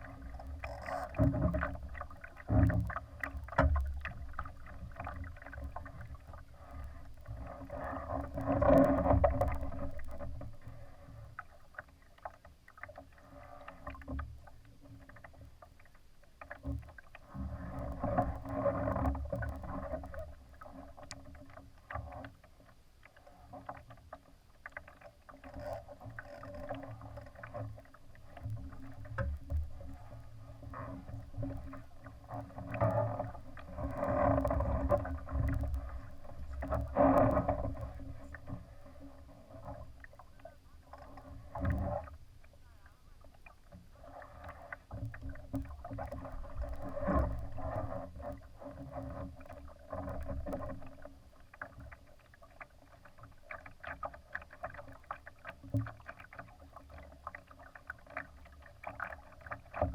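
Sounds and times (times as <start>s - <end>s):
water splashing against hull: 0.0s - 59.9s.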